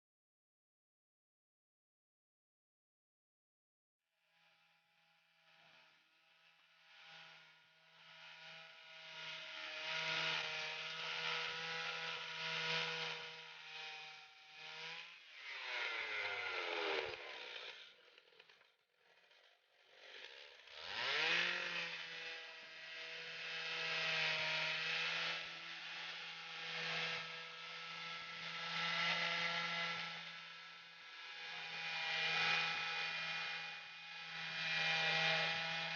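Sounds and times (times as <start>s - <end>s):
chainsaw engine revving: 5.5s - 35.9s.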